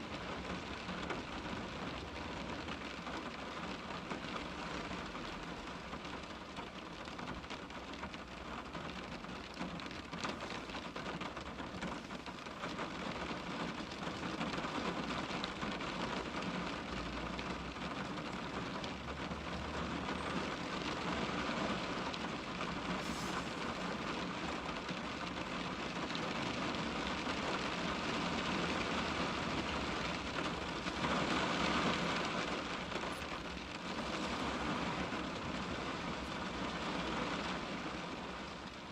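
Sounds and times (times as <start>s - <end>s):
rain pattering on windscreen: 0.0s - 38.9s.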